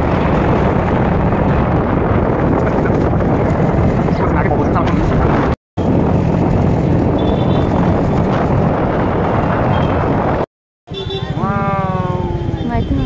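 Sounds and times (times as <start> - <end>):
wind rushing: 0.0 - 10.5
road noise: 0.0 - 13.0.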